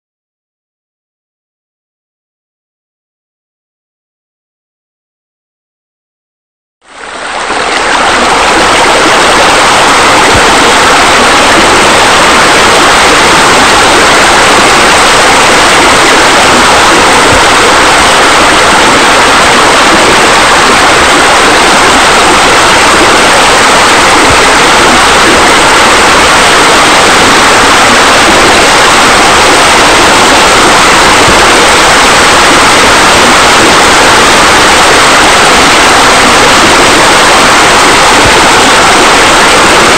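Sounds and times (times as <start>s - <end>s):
water pouring into pool: 6.8s - 39.9s.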